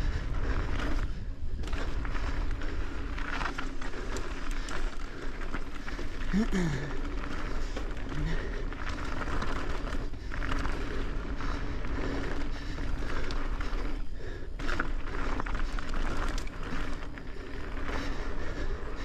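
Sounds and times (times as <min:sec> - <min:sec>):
bike tyres rolling on dirt: 0:00.0 - 0:19.0.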